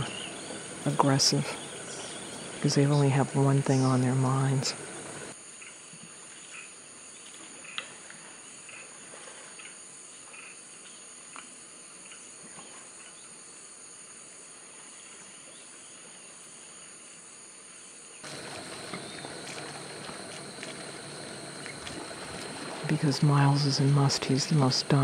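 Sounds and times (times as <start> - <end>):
insect chorus drone: 0.0 - 25.0
steady high insect tone: 0.0 - 25.0.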